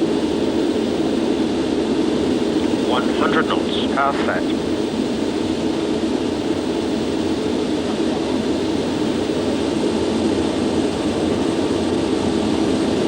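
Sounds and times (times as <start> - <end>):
jet engines at full power: 0.0 - 13.0.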